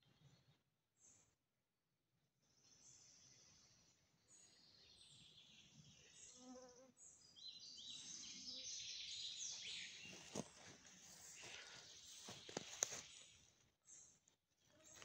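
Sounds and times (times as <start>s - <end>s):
songbird singing: 2.6s - 15.0s.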